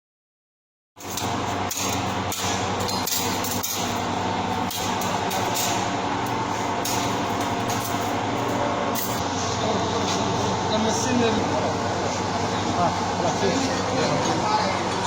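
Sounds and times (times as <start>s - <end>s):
machinery drone: 1.0s - 15.0s.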